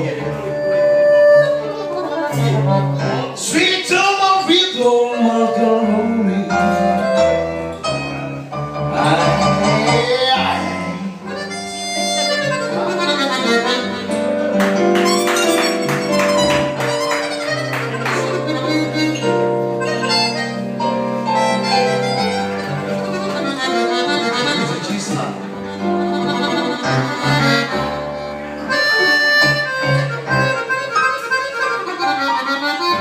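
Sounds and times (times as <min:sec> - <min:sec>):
live blues band playing: 0:00.0 - 0:33.0.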